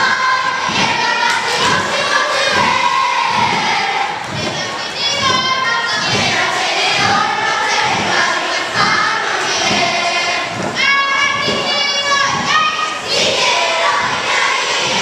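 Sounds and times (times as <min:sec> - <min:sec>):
children chanting in unison: 0:00.0 - 0:15.0
low thuds of performers: 0:00.0 - 0:15.0.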